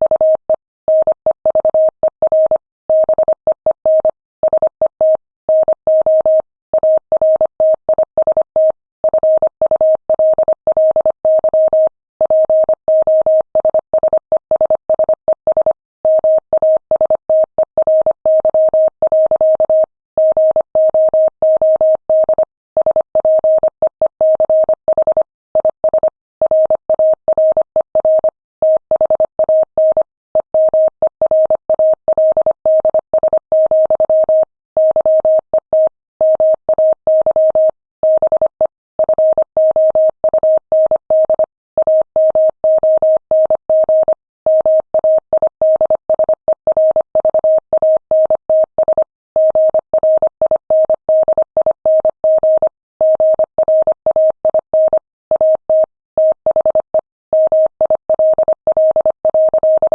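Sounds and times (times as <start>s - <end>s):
morse code beeps: 0.0s - 59.9s.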